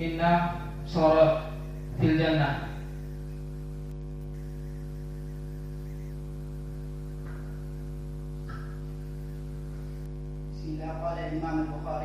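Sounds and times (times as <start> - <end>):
electrical mains hum with buzz: 0.0 - 12.0.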